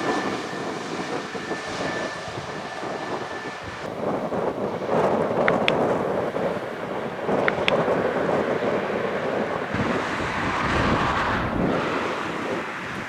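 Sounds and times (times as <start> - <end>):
distant jet engines rumbling: 0.0 - 13.0
wind buffeting microphone: 0.0 - 13.0.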